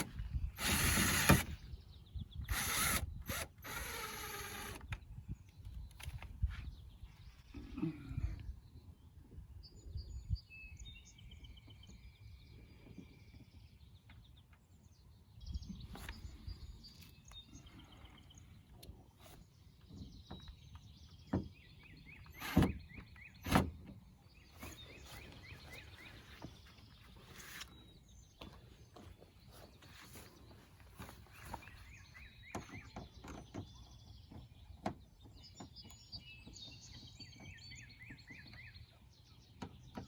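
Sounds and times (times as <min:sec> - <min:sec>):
birds chirping and trilling: 0:00.0 - 0:40.0.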